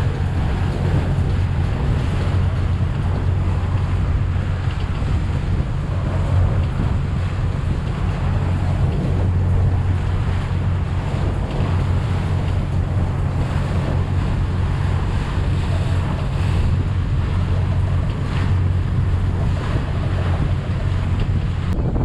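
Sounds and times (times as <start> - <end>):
boat engine droning: 0.0 - 22.0
water rushing past hull: 0.0 - 22.0
wind buffeting microphone: 0.0 - 22.0.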